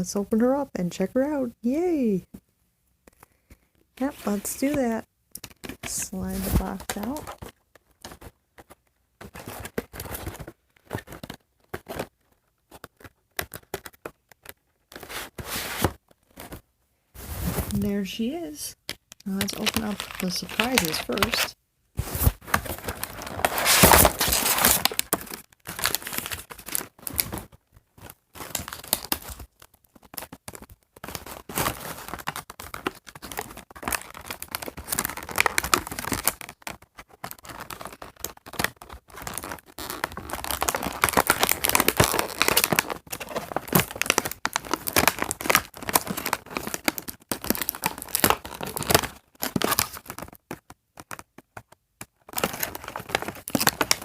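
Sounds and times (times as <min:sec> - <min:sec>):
packaging rustling and ripping: 0:04.0 - 0:17.8, 0:19.1 - 0:54.0.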